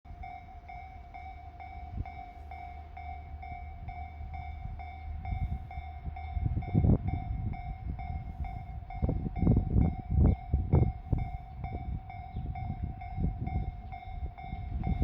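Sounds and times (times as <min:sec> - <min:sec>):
diesel railcar rumbling: 0:00.1 - 0:15.0
level-crossing warning bell ringing: 0:00.1 - 0:15.0
train clattering: 0:00.1 - 0:15.0.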